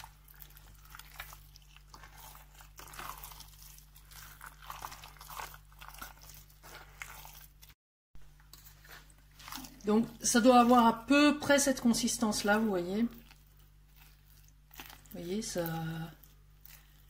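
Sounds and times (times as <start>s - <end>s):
spoon stirring wet filling: 0.0s - 17.0s.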